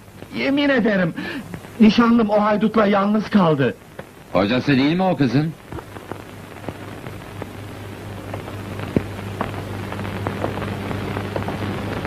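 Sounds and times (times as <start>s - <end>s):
crackles and pops: 0.0s - 12.0s
film soundtrack hiss: 0.0s - 12.0s.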